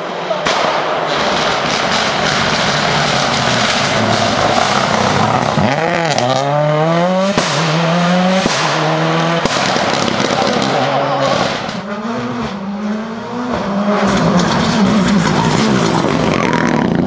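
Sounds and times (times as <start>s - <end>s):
rally car engine passing by: 0.0s - 17.0s.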